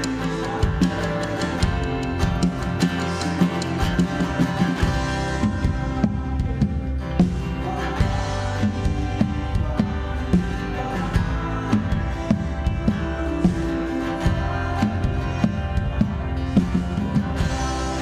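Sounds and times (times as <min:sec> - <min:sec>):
strummed guitar: 0:00.0 - 0:18.0
worship band music: 0:00.0 - 0:18.0.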